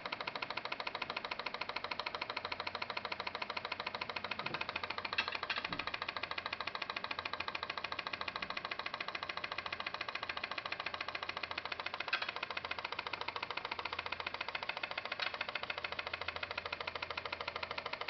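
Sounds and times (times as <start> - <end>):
pop pop boat motor pulsing: 0.0 - 18.0.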